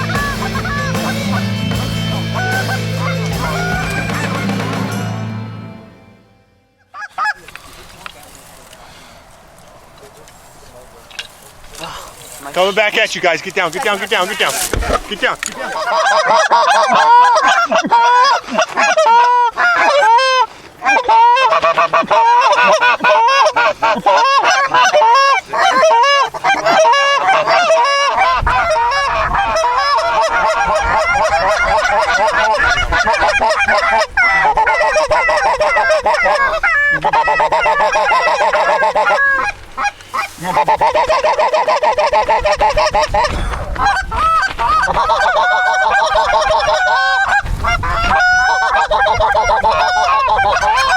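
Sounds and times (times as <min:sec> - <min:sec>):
goose call honks and clucks: 0:00.0 - 0:05.1, 0:06.8 - 0:07.8, 0:13.7 - 0:50.9.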